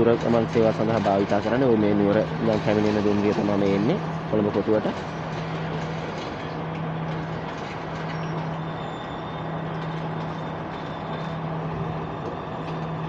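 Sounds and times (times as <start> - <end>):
diesel train engine humming: 0.0 - 13.0.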